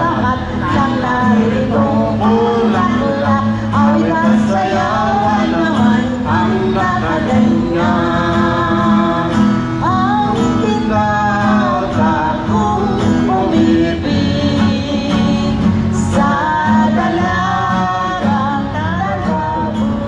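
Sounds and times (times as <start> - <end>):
acoustic guitar: 0.0 - 20.0
group singing: 0.0 - 20.0.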